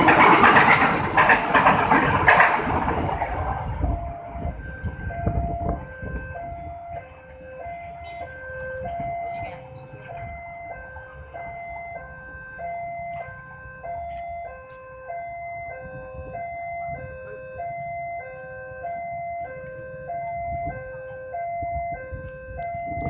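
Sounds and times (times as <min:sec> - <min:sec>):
two-tone crossing alarm: 0:00.0 - 0:23.0.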